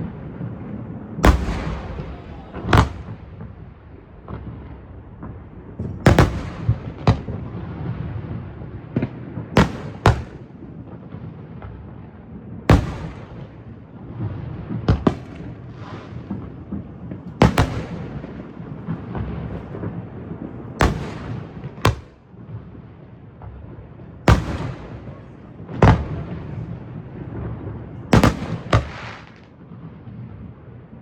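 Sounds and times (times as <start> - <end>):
fireworks bangs with echo: 0.0 - 31.0
rumble of distant fireworks: 0.0 - 31.0.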